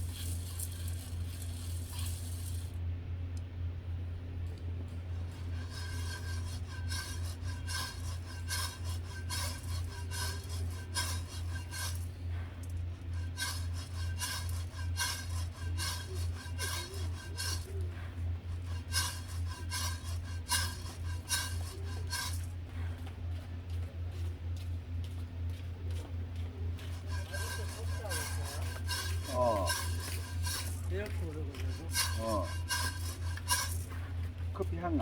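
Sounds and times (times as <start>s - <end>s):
coffee beans rattling in roaster: 0.0s - 2.8s, 4.5s - 22.9s, 26.6s - 35.0s
steady low hum: 0.0s - 35.0s.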